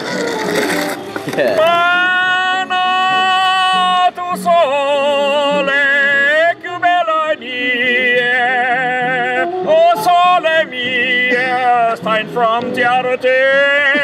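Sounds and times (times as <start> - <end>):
man singing operatically: 1.3 - 14.0.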